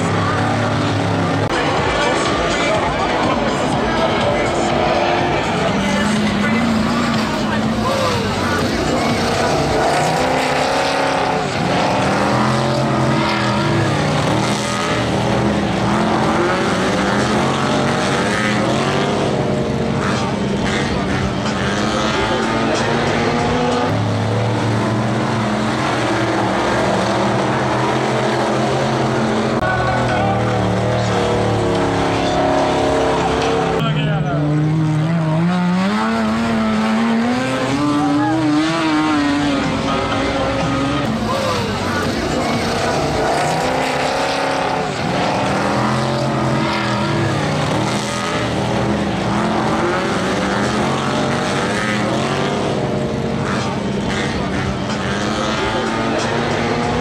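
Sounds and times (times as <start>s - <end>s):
combine harvester engines running: 0.0s - 57.0s.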